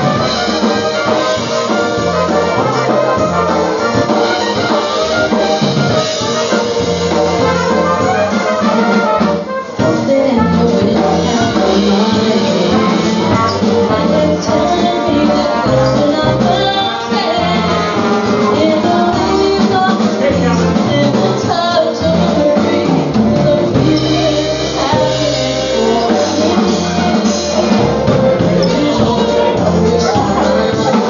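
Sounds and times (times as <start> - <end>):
polka band playing: 0.0 - 31.0.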